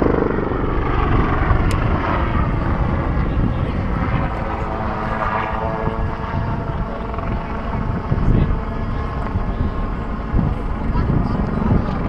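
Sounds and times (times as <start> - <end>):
helicopter in flight: 0.0 - 12.0.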